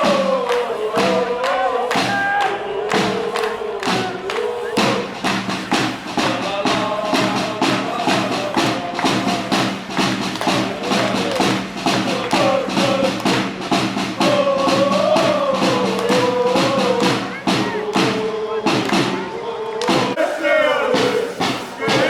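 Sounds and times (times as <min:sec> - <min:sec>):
drum beat: 0:00.0 - 0:22.0
football fans chanting: 0:00.0 - 0:22.0.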